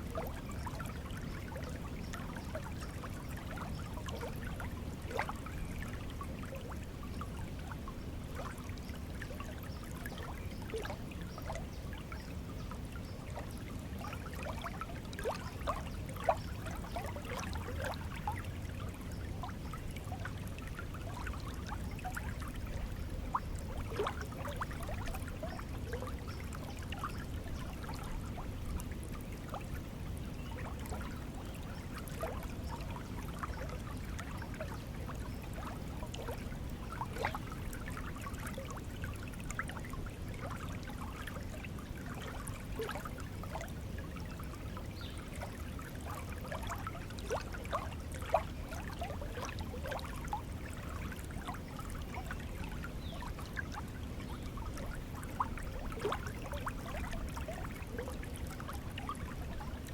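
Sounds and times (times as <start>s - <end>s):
water bubbling and trickling: 0.0s - 59.9s.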